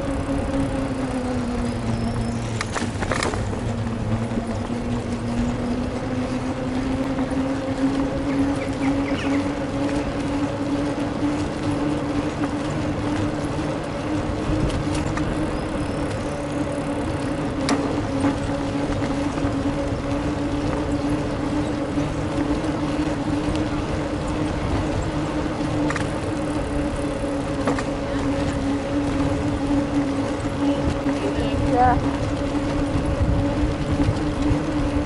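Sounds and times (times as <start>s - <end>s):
road noise rumbling: 0.0s - 35.0s.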